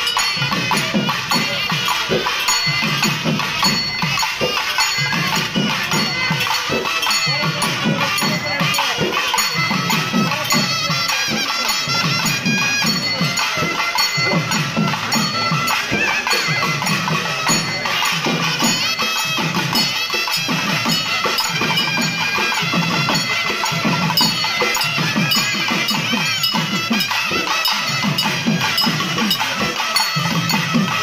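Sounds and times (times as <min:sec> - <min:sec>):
drums beating fast rhythm: 0:00.0 - 0:31.0
reed wind instrument melody: 0:00.0 - 0:31.0.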